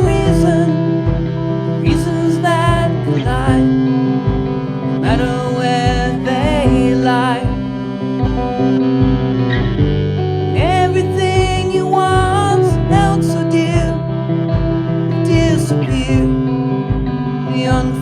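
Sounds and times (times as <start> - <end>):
bass guitar: 0.0 - 18.0
drum beat: 0.0 - 18.0
lead guitar bending notes: 0.0 - 18.0.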